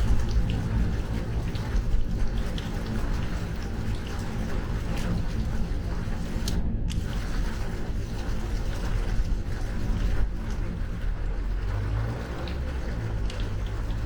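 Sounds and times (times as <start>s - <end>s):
rain and spray hissing: 0.0s - 14.0s
raindrops ticking: 0.0s - 14.0s
tyres rumbling on flooded road: 0.0s - 14.0s.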